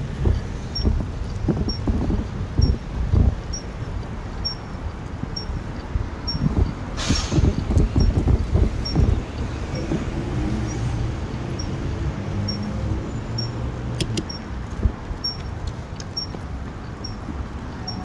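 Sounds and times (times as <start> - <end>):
bicycle rolling on pavement: 0.0 - 13.8, 14.4 - 18.0
wind buffeting microphone: 0.0 - 18.0.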